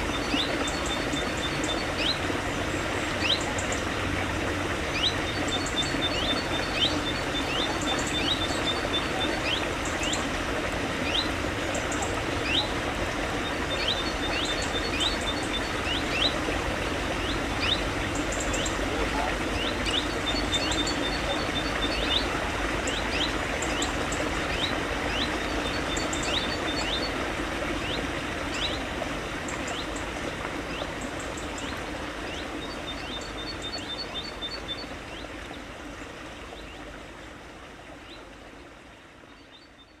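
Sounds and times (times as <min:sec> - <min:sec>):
stream running over rocks: 0:00.0 - 0:40.0.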